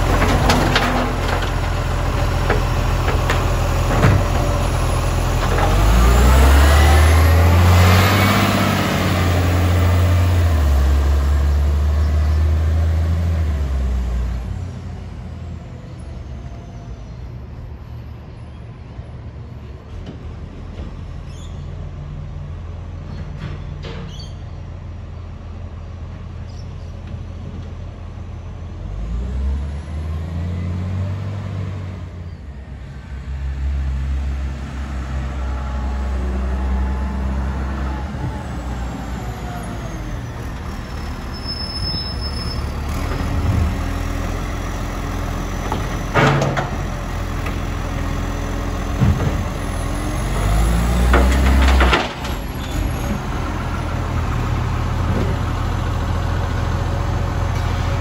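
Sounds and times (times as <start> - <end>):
garbage truck diesel engine: 0.0 - 58.0.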